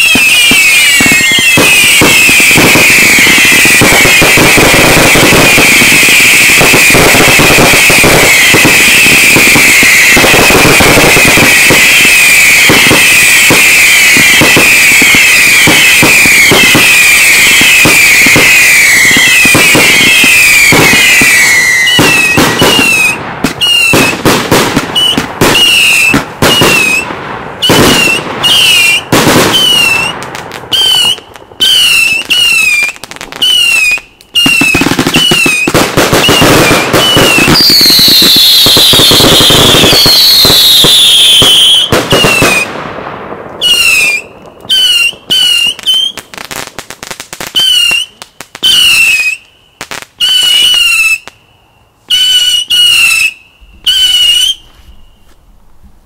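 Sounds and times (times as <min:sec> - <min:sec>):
firework bangs: 0:00.0 - 0:51.4, 0:52.1 - 0:56.0
high firework whistles: 0:00.0 - 0:55.6.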